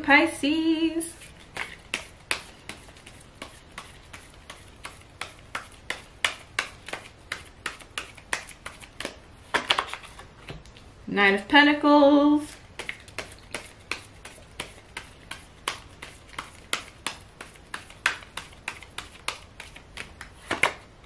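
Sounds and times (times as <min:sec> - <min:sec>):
cards being shuffled: 0:01.1 - 0:10.7, 0:12.5 - 0:20.9.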